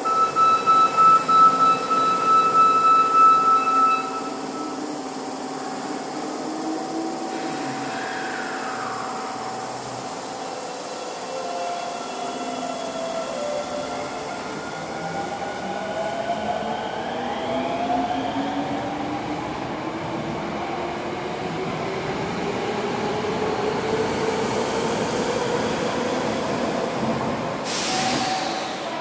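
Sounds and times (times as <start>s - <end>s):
rush of passing train cars: 0.0s - 29.0s.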